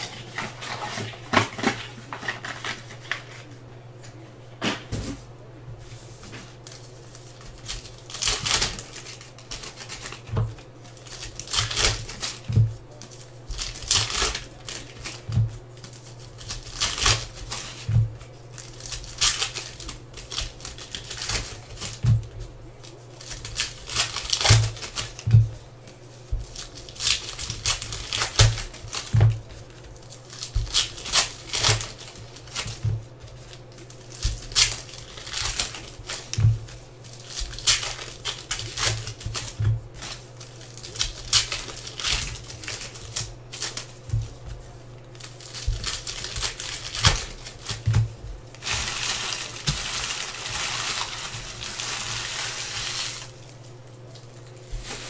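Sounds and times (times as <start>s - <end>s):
card pack wrappers tearing and crinkling: 0.0s - 3.5s, 6.6s - 55.0s.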